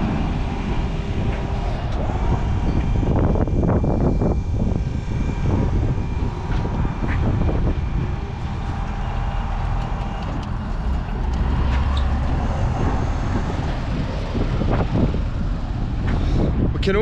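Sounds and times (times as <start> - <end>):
engine humming: 0.0 - 17.0
wind rumbling on microphone: 0.0 - 17.0.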